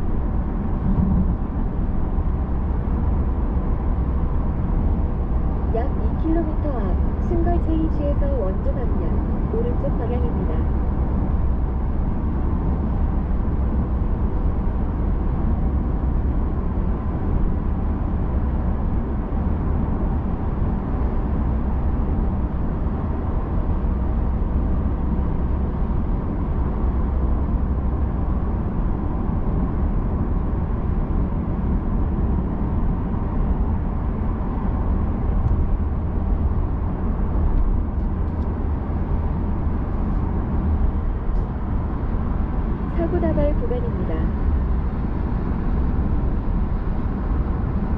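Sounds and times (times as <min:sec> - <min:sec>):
car cabin road noise: 0:00.0 - 0:47.9.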